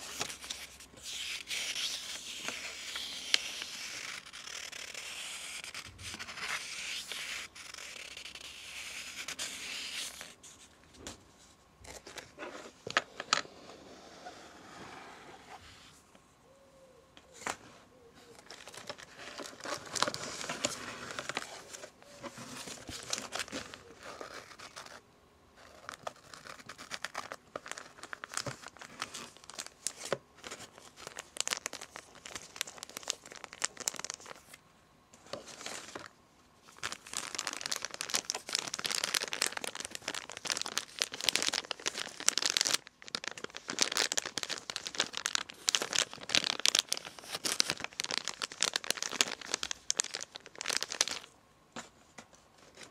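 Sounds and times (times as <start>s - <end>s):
paper packaging crinkling: 0.0s - 11.1s, 18.3s - 25.0s, 25.6s - 34.6s, 35.2s - 51.3s.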